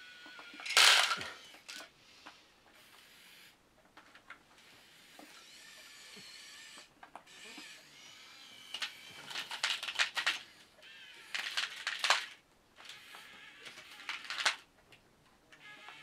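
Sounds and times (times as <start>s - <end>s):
small electric motors whining: 0.0s - 1.8s, 2.7s - 3.6s, 4.6s - 14.6s, 15.5s - 16.0s.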